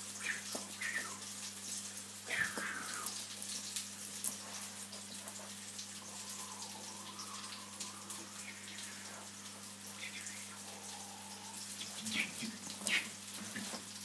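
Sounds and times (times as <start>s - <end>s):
low electrical hum: 0.0s - 14.0s
room noise hiss: 0.0s - 14.0s.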